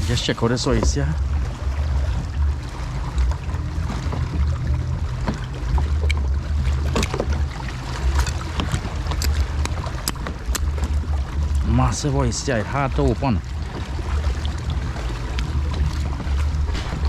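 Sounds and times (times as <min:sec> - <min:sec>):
water lapping around kayak: 0:00.0 - 0:17.0.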